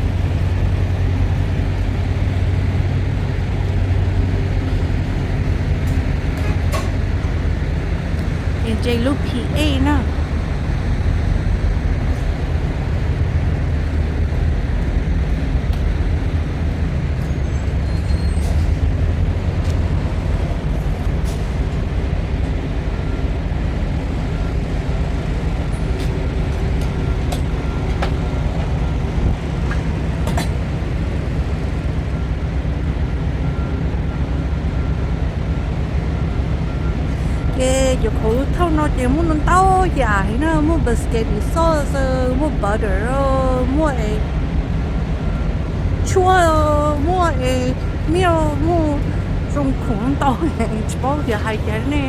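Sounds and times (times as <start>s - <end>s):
truck engine and road rumble: 0.0s - 52.0s.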